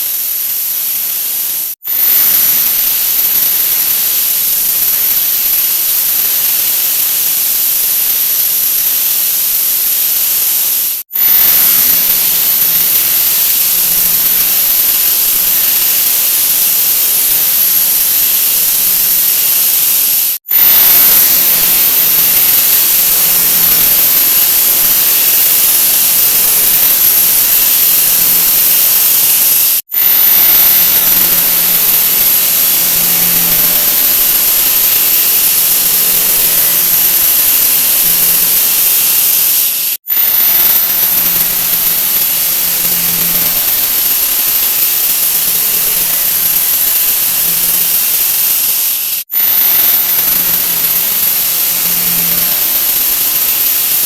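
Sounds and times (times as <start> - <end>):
loud steady hiss: 0.0 - 54.0.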